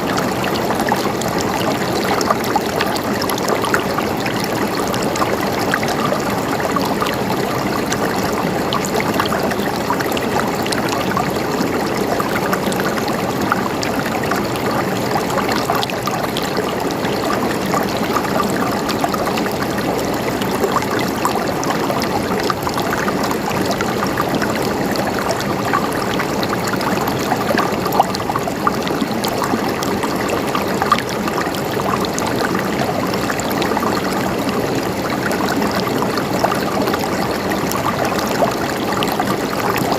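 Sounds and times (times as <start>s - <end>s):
river water splashing over rocks: 0.0s - 39.9s.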